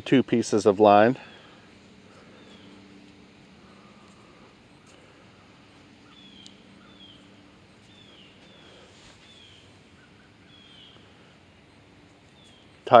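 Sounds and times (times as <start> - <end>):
faint steady low hum: 0.0 - 13.0
bird calling high falling notes: 1.0 - 13.0.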